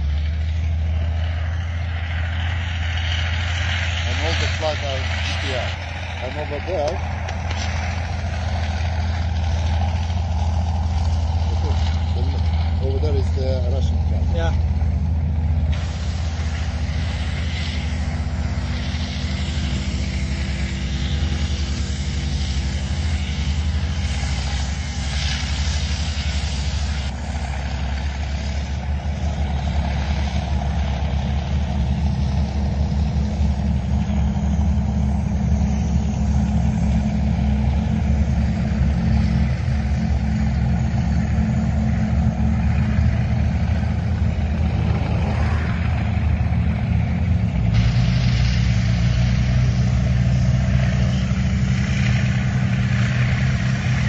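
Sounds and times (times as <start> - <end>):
rushing hiss: 0.0 - 14.8, 15.6 - 54.0
tank engines droning: 0.0 - 54.0.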